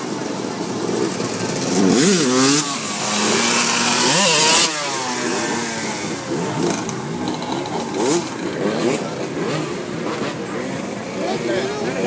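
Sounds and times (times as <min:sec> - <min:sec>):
motorcycles revving: 0:00.0 - 0:12.0.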